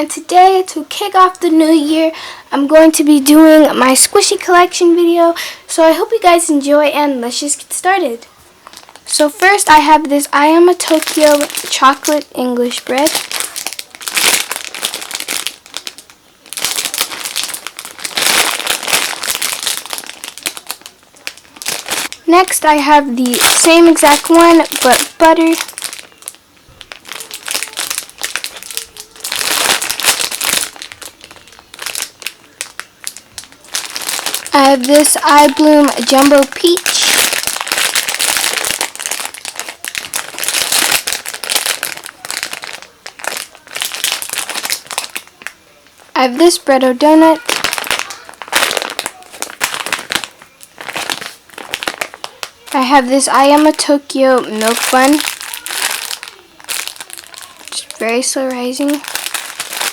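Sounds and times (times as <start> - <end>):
foam toy rustling: 7.3 - 59.9
plastic packaging crinkling: 7.3 - 59.9.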